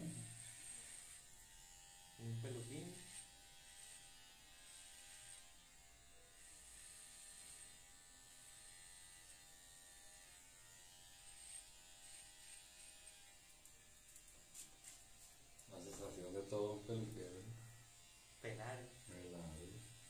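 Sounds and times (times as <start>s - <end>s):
electric hair clipper buzzing: 0.0s - 20.0s.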